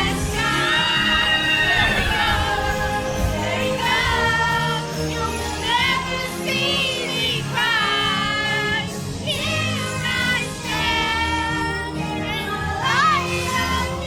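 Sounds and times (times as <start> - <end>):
song with sung vocals: 0.0 - 14.0.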